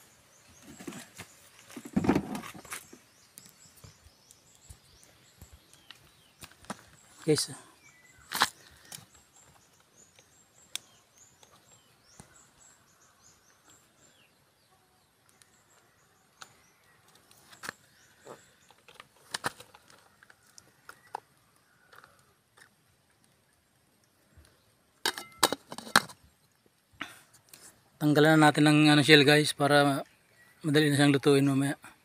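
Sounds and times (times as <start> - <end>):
small birds chirping: 0.0 - 25.0, 26.1 - 32.0.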